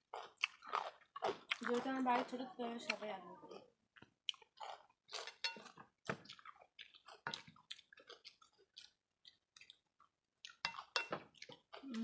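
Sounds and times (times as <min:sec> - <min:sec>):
chewing and wet mouth smacks: 0:00.0 - 0:02.3, 0:02.9 - 0:12.0.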